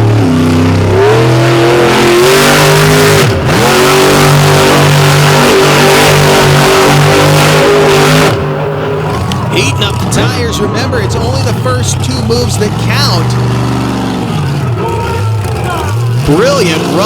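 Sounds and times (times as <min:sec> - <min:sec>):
monster truck engine revving: 0:00.0 - 0:17.0
tires spinning: 0:00.0 - 0:17.0.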